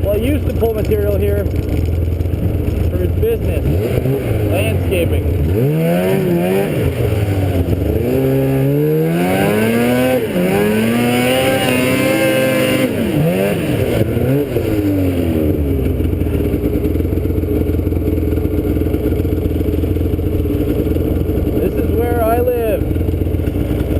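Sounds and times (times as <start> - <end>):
small vehicle engine revving: 0.1 - 23.9.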